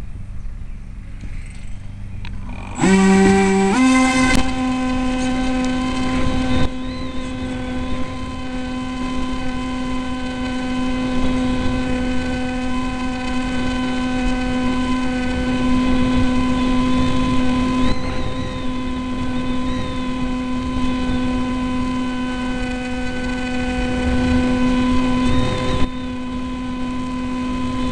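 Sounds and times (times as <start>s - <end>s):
electric motor buzzing whine: 0.7s - 27.9s.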